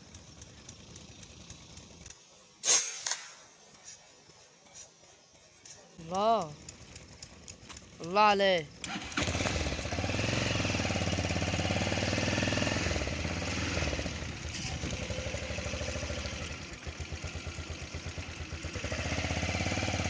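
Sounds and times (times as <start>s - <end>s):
vehicle engine running: 0.0s - 2.6s, 3.6s - 20.0s.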